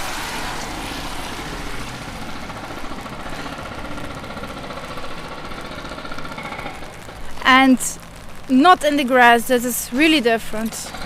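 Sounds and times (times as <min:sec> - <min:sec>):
vehicle engine running: 0:00.0 - 0:11.0
steady background hiss: 0:01.8 - 0:11.0.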